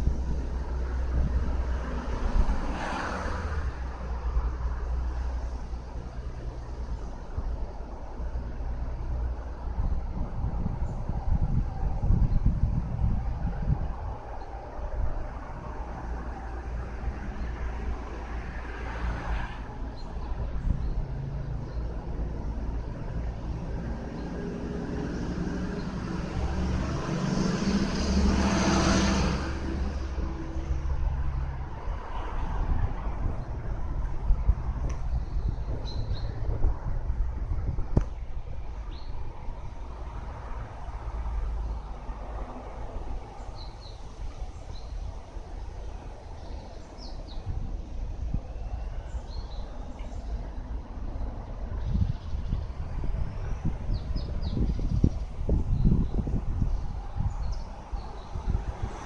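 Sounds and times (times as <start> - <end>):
vehicle engine passing by: 0.0 - 59.0
low outdoor rumble: 3.5 - 59.0.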